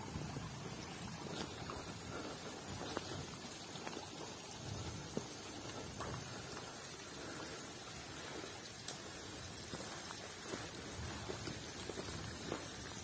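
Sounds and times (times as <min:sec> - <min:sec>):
sharp drips: 0:00.0 - 0:13.0.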